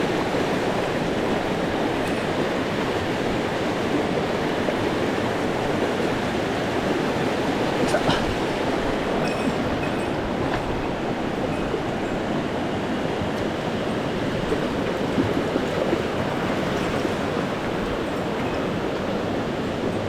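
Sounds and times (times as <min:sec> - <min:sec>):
water rushing over rocks: 0:00.0 - 0:20.0.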